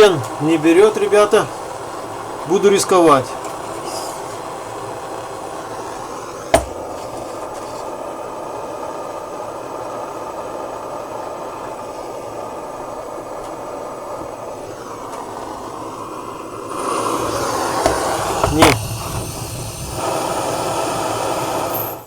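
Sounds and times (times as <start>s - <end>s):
hair dryer blowing: 0.0s - 22.0s.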